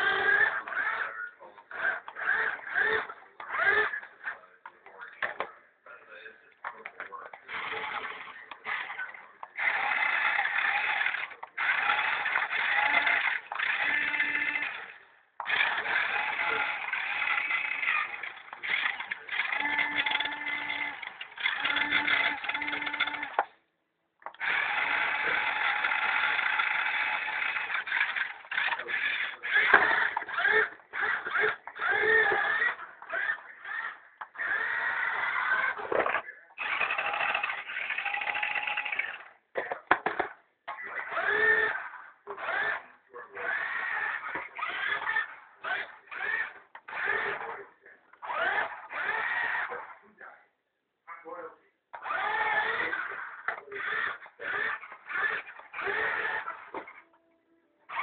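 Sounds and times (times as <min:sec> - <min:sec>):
toy car electric motor whirring: 0:00.0 - 0:04.4, 0:07.3 - 0:23.6, 0:24.2 - 0:50.2, 0:52.0 - 0:57.1.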